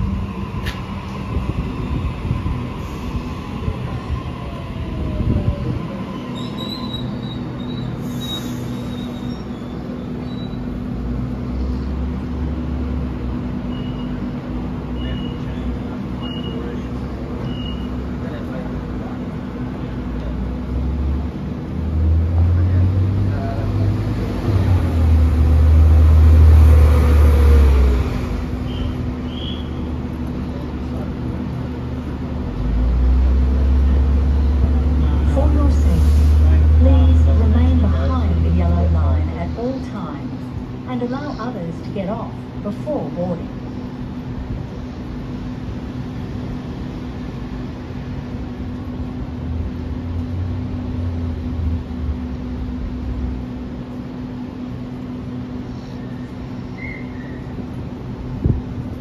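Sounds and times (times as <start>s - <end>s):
train electrical hum: 0.0s - 59.0s.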